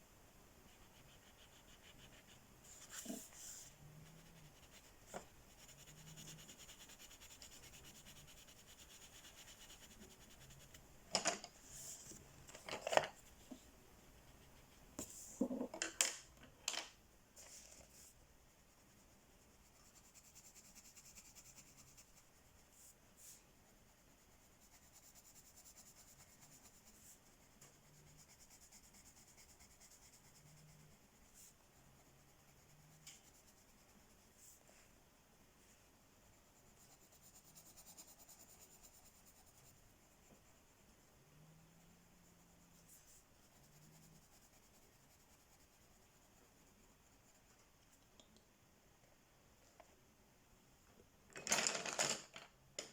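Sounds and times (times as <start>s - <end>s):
coloring strokes on paper: 0.6s - 15.5s, 17.4s - 48.1s.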